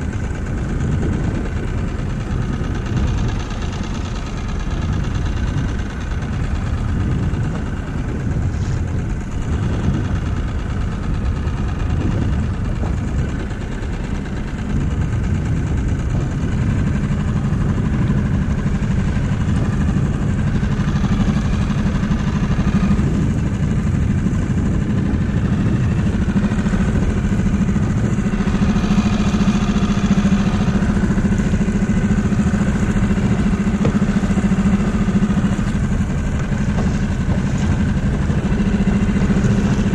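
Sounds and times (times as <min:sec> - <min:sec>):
small outboard motor running: 0:00.0 - 0:39.9.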